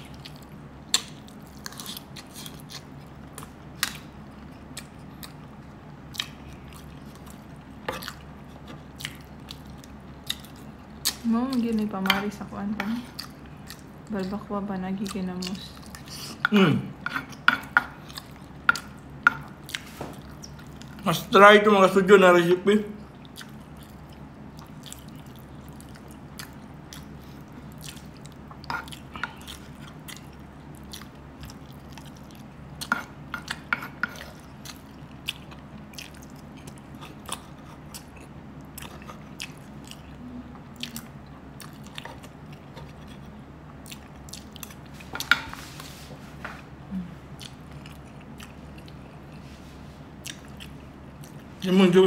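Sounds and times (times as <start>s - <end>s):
man chewing food: 0.0s - 21.1s, 23.0s - 52.0s.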